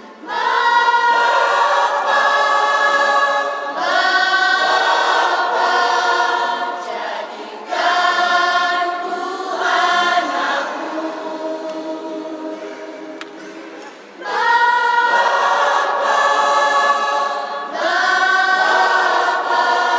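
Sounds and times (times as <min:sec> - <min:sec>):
mixed choir singing: 0:00.0 - 0:19.9.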